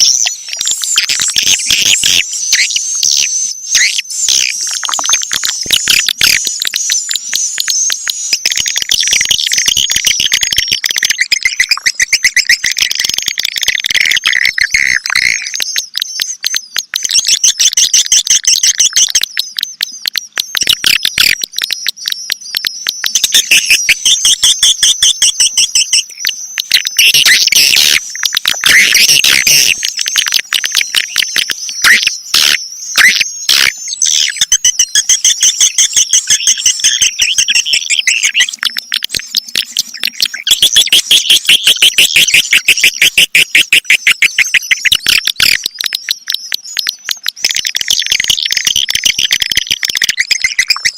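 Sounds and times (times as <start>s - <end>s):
swiftlets chirping and twittering: 0.0s - 50.9s.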